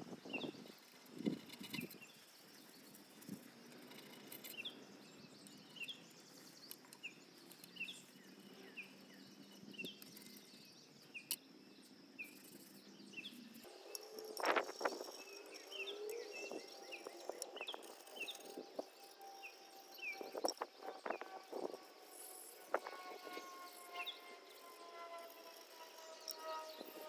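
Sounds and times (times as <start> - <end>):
bird chirping: 0.1 - 27.0.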